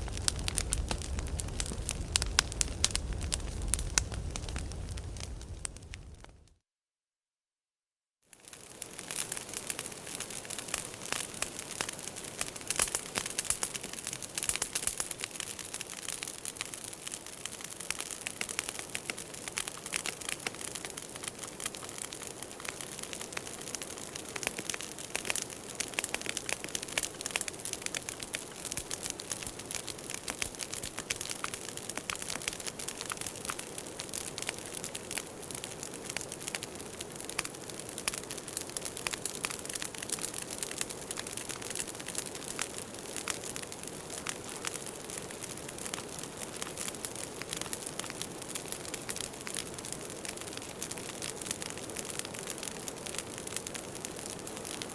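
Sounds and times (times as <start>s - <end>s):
fire hissing: 0.0s - 6.2s, 8.4s - 54.9s
firewood crackling and popping: 0.0s - 6.5s, 8.3s - 54.9s.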